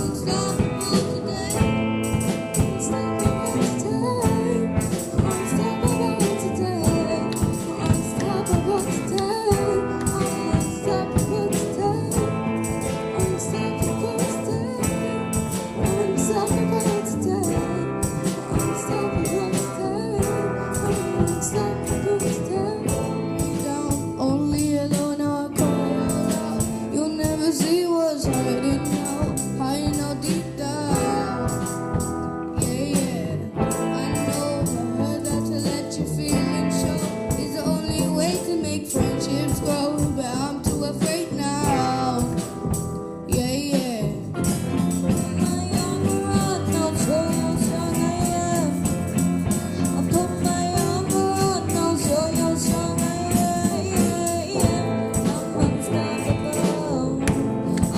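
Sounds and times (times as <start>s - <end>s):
live soul band playing: 0.0s - 57.9s
person singing: 0.0s - 57.9s.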